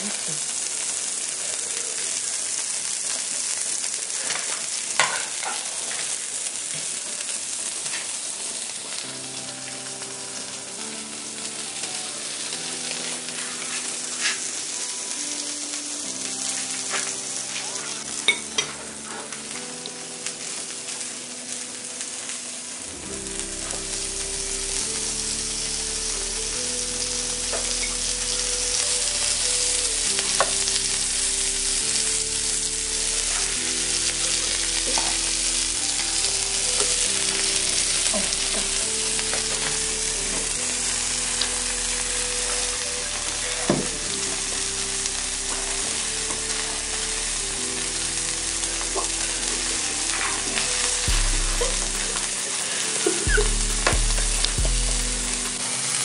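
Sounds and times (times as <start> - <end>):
food sizzling in a pan: 0.0 - 56.0
soft background music: 0.0 - 56.0.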